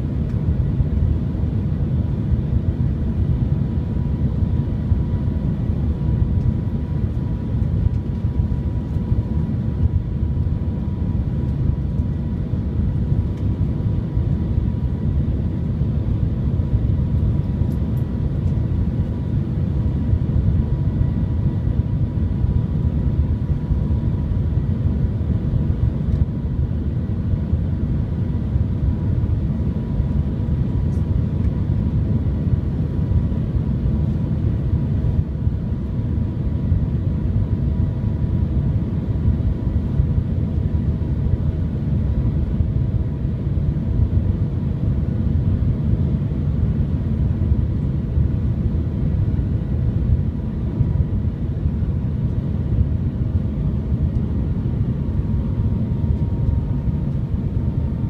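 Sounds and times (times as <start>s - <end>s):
faint steady whine: 0.0s - 58.0s.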